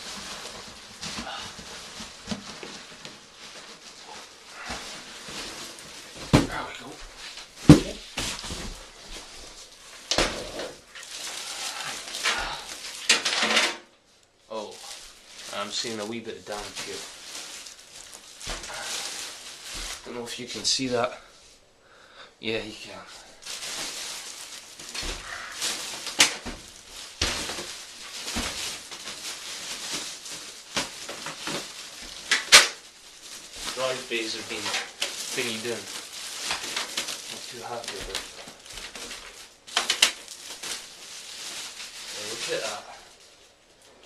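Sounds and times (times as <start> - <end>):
packaging rustling and scraping: 0.0 - 13.9, 14.5 - 21.6, 22.9 - 44.0.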